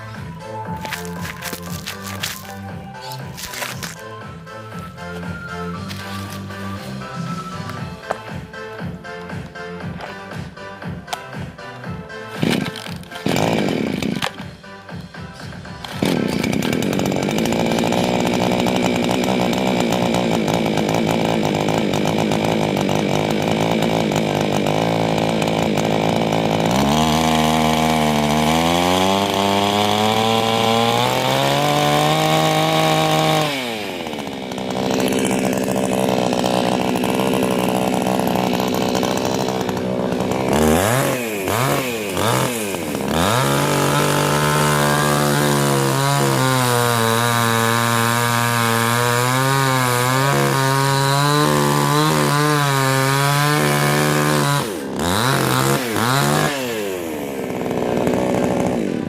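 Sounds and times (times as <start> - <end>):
small engine revving: 0.0 - 4.0, 12.3 - 14.4, 15.8 - 59.0.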